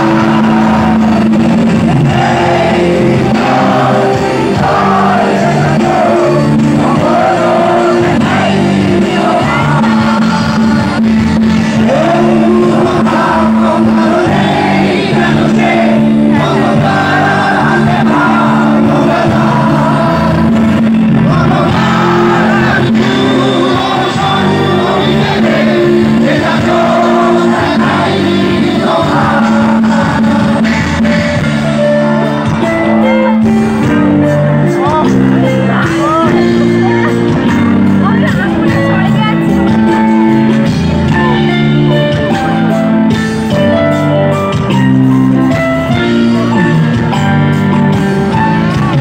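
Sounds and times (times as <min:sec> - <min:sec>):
person singing: 0:00.0 - 0:42.8
live rock band playing: 0:00.0 - 0:49.0.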